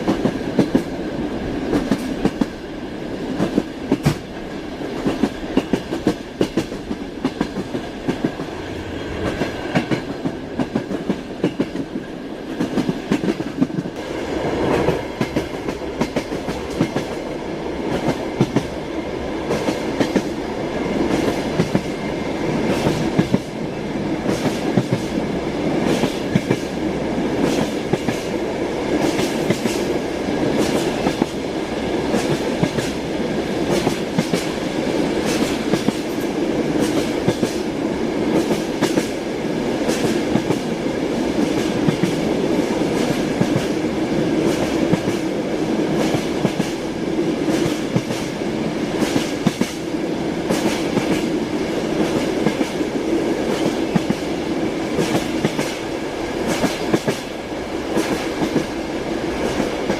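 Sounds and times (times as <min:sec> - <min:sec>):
train wheels clacking over rails: 0:00.0 - 0:59.9.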